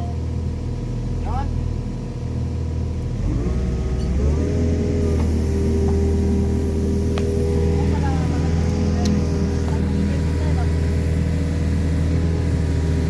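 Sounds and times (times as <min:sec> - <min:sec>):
excavator diesel engine revving: 0:00.0 - 0:13.0.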